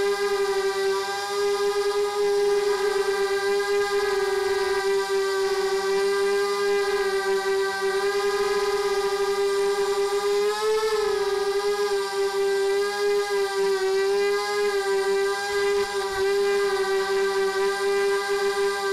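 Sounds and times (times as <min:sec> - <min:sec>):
drone motors whining: 0:00.0 - 0:18.9.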